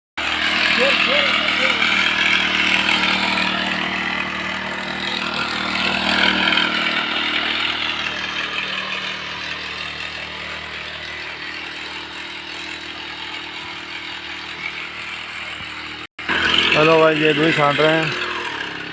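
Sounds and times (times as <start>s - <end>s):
small sprayer engine running: 0.2s - 18.9s.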